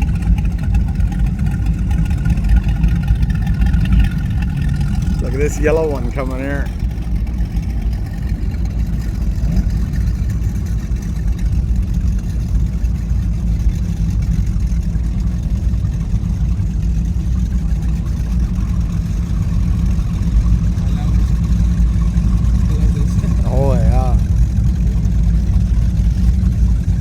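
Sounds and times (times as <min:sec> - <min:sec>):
powerboat engines rumbling: 0:00.0 - 0:27.0.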